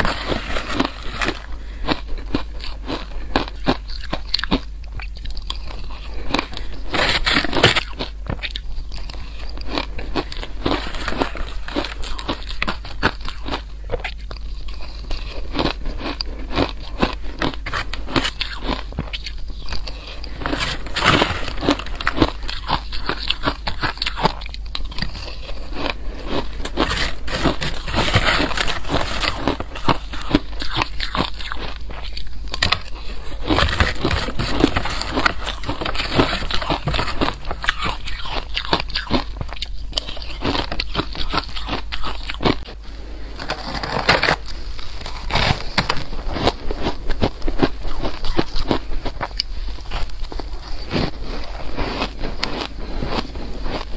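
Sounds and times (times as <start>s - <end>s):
shaved ice crunching while chewed: 0.0s - 42.8s, 43.4s - 53.9s.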